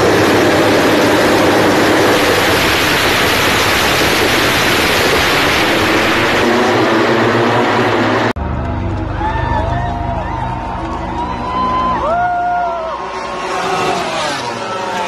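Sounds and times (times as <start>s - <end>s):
racing motorcycles at full throttle: 0.0s - 9.6s, 10.5s - 15.0s.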